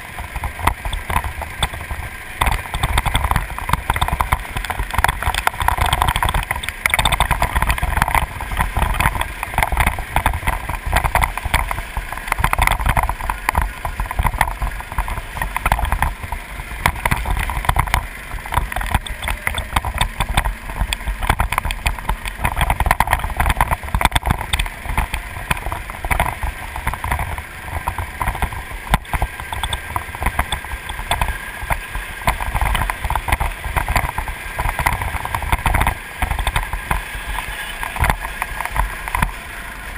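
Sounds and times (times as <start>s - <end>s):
go-kart engine racing: 0.0s - 39.9s
wind buffeting microphone: 0.0s - 39.9s.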